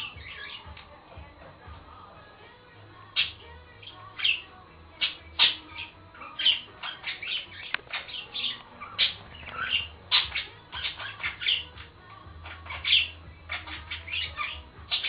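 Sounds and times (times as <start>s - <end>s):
budgerigars chirping and squawking: 0.0s - 0.8s, 3.1s - 15.0s.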